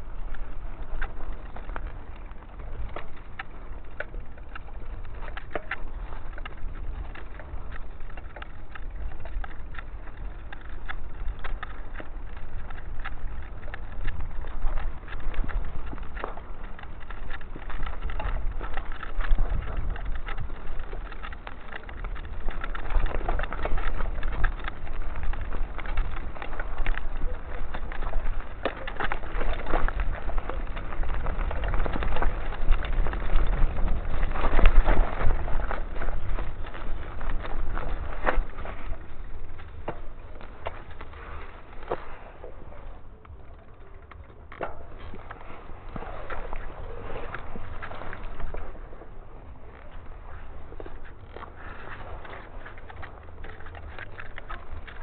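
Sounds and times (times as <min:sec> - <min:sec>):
bike tyres crunching on gravel: 0:00.0 - 0:55.0
clicks and rattles: 0:00.0 - 0:55.0
low rumble: 0:00.0 - 0:55.0.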